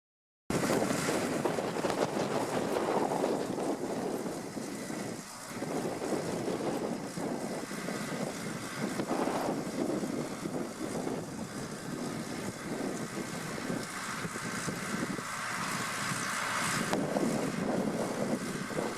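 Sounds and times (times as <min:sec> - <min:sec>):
tractor running: 0:00.5 - 0:18.9
wind buffeting microphone: 0:00.5 - 0:18.9.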